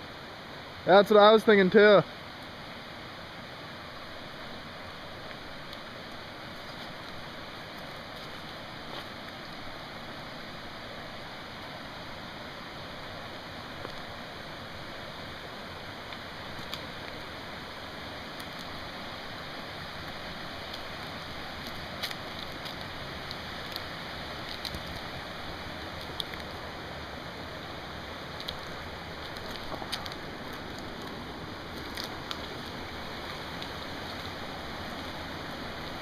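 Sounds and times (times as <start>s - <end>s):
rush of falling water: 0.0s - 36.0s.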